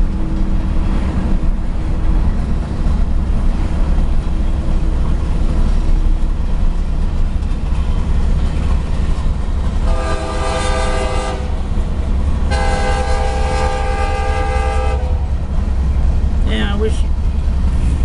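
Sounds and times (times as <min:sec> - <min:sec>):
road and engine noise in cab: 0:00.0 - 0:18.0.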